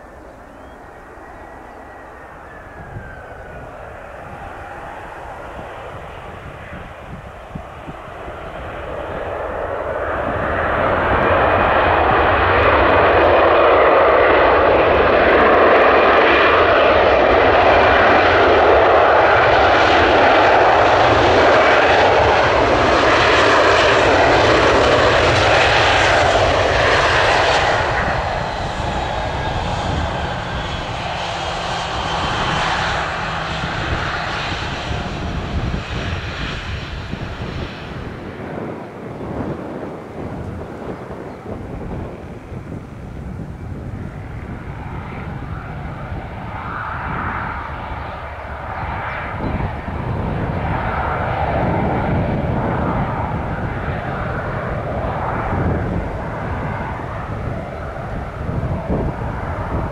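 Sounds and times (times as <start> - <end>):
jet airliner engine noise: 0.0 - 59.9.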